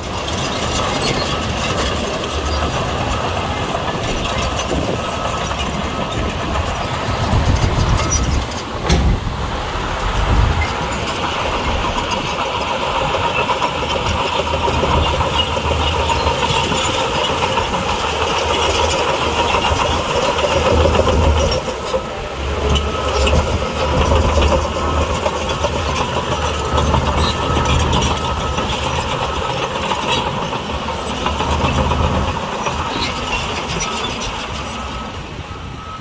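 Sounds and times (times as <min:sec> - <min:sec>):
heavy diesel engine rumbling: 0:00.0 - 0:36.0
machinery whine: 0:00.0 - 0:36.0.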